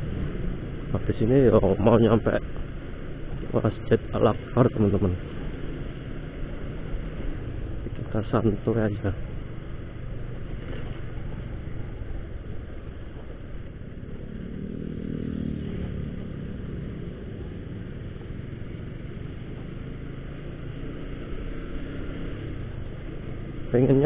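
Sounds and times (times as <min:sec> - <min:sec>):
motorcycle engine: 0:00.0 - 0:24.0
road noise: 0:00.0 - 0:24.0.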